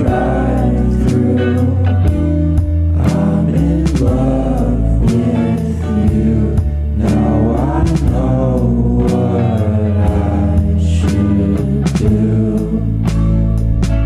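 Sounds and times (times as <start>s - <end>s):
song with singing voice: 0.0s - 14.0s.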